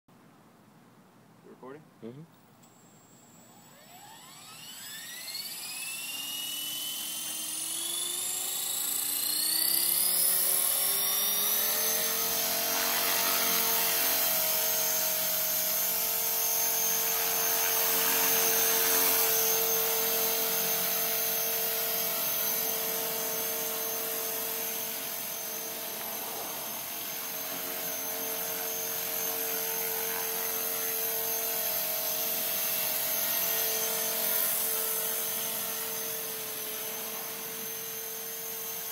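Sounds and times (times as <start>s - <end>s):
rc helicopter motor whine: 2.6s - 38.9s
rotor whir: 2.7s - 38.9s.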